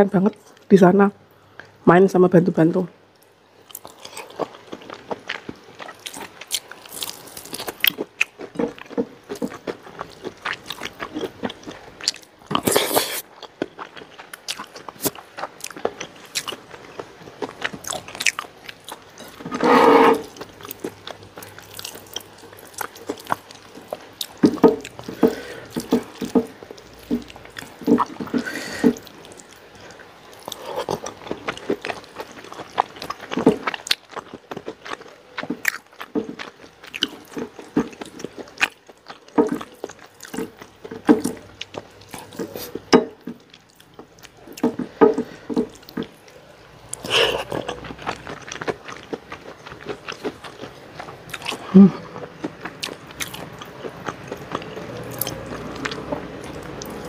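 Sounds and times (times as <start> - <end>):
chewing crispy food: 3.1 - 57.0.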